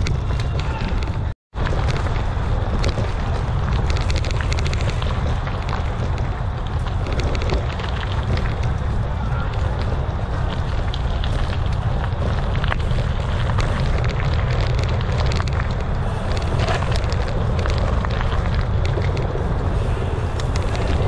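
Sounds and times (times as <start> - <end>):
bike clicks and rattles: 0.0 - 21.0
bike tyres grinding on dirt: 0.0 - 21.0
wind rumble on microphone: 0.0 - 21.0.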